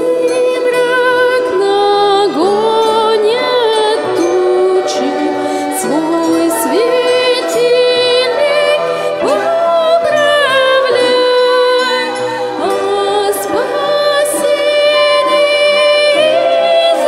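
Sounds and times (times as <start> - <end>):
glockenspiel: 0.0 - 17.0
keyboard: 0.0 - 17.0
person singing: 0.0 - 17.0
strings: 0.0 - 17.0.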